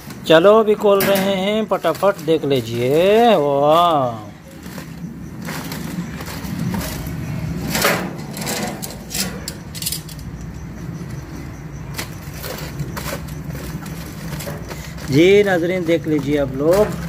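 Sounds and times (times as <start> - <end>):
aluminium foil crinkling: 0.0 - 10.4, 11.9 - 17.0.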